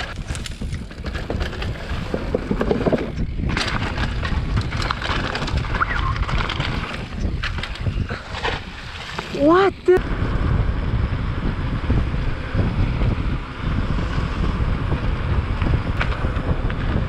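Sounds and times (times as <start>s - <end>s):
bike rattling and knocking: 0.0s - 9.4s, 10.2s - 17.0s
wind buffeting microphone: 0.0s - 17.0s.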